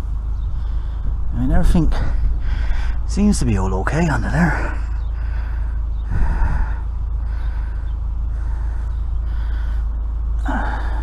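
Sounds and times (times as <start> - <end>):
low rumble: 0.0 - 11.0
man breathing heavily: 0.3 - 1.3, 1.9 - 3.1, 4.4 - 11.0.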